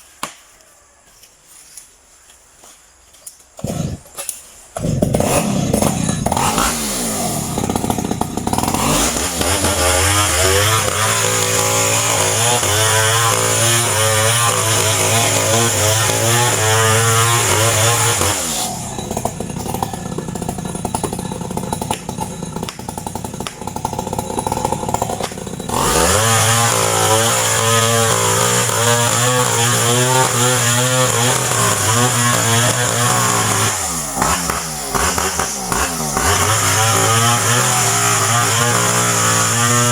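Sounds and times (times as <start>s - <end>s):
chainsaw revving: 3.6s - 4.1s, 4.8s - 39.9s
rough rasping noise: 4.8s - 39.9s.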